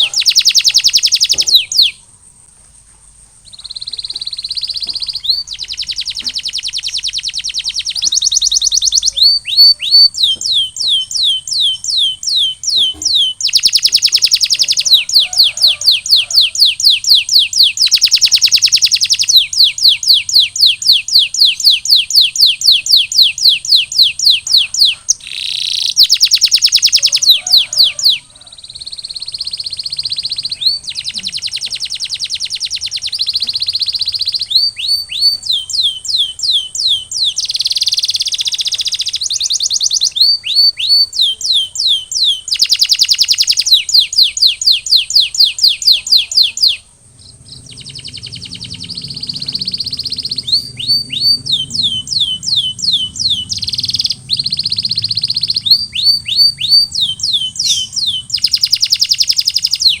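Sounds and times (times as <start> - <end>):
canary singing: 0.0 - 2.1, 3.2 - 60.0.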